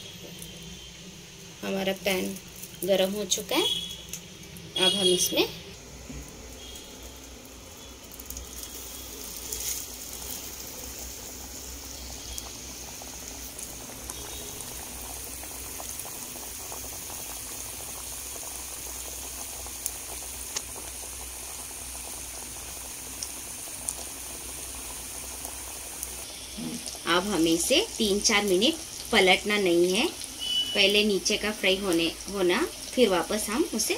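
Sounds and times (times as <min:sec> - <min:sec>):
chicken deep-frying in oil: 0:00.0 - 0:33.9
oil popping: 0:01.9 - 0:29.5.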